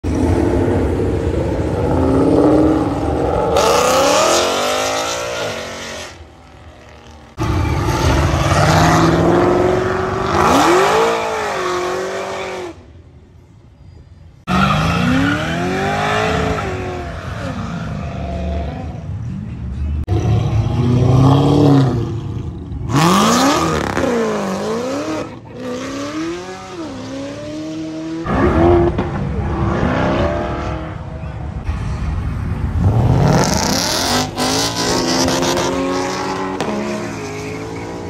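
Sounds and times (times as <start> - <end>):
car engines revving: 0.0 - 13.1, 14.4 - 38.0.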